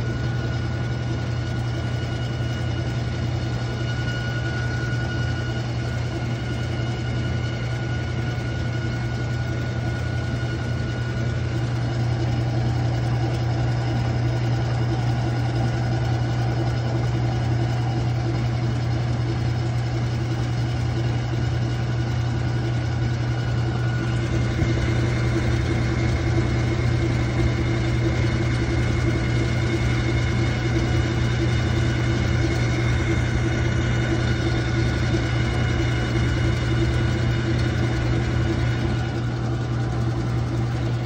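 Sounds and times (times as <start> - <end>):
washing machine motor hum: 0.0 - 41.0.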